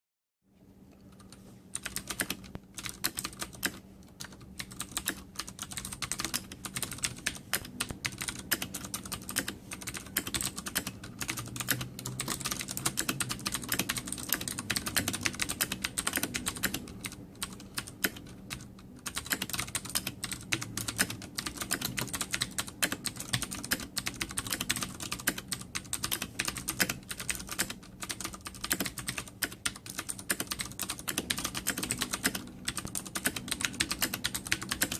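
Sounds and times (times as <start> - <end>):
fast mechanical keyboard typing: 1.1 - 34.9.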